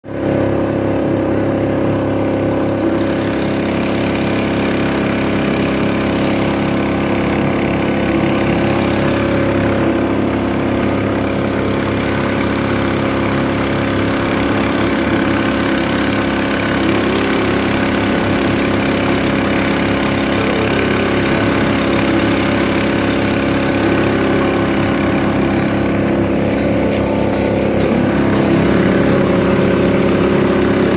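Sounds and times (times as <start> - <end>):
motorboat engine running: 0.0 - 30.9.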